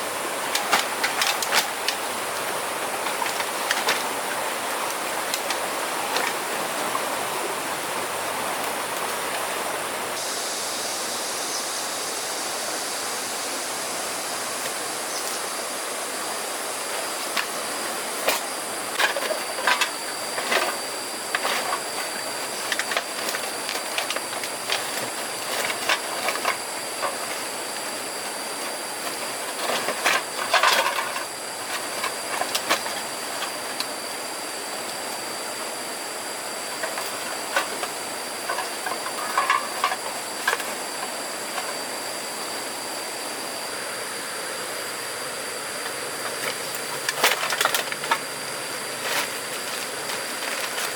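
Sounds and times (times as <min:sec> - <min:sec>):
high steady whine: 0:00.0 - 0:50.9
steady hiss: 0:00.0 - 0:50.9.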